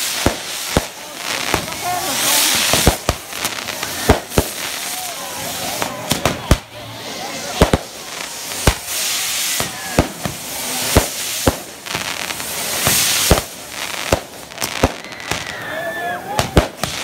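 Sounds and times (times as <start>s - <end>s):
firecracker bangs: 0.0s - 4.9s, 7.5s - 15.6s, 16.3s - 17.0s
fireworks fountains hissing: 0.0s - 17.0s.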